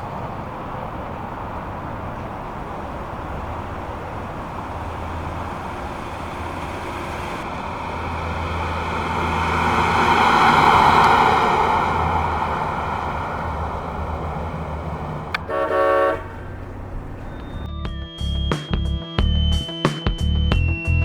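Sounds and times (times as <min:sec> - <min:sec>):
car engine driving: 0:00.0 - 0:17.7
road noise: 0:00.0 - 0:18.4.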